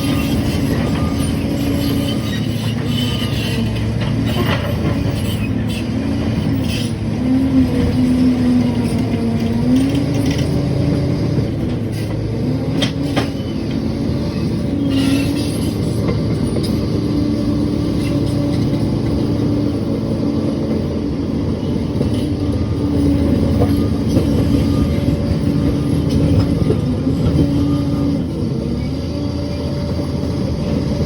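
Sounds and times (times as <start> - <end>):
crawler dozer diesel engine: 0.0 - 31.0.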